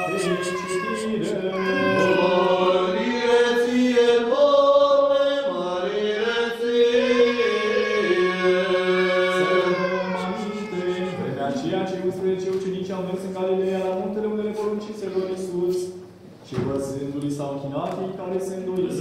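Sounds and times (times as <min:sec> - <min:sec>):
liturgical chant: 0:00.0 - 0:15.5.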